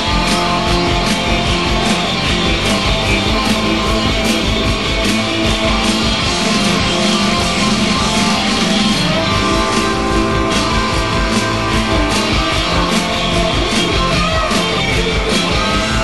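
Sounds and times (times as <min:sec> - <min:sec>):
distorted electric guitar: 0:00.0 - 0:16.0
drums and cymbals: 0:00.0 - 0:16.0
keyboards: 0:00.0 - 0:16.0.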